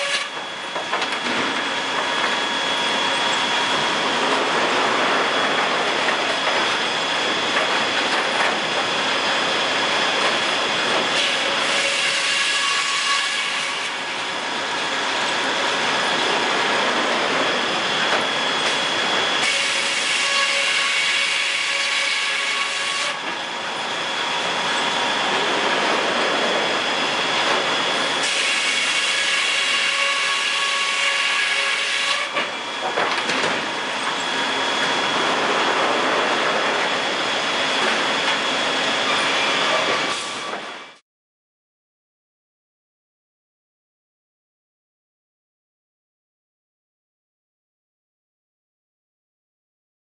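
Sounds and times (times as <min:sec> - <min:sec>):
sawmill mechanical din: 0:00.0 - 0:41.0.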